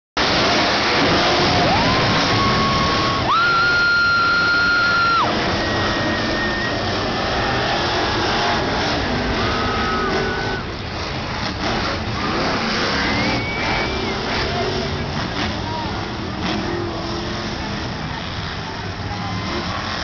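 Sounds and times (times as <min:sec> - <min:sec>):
loud arena din: 0:00.2 - 0:20.0
monster truck engines running: 0:00.2 - 0:20.0.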